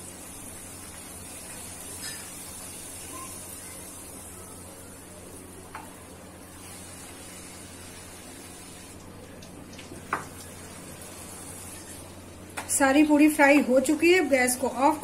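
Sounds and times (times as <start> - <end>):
oil sizzling in a pan: 0.0 - 12.6.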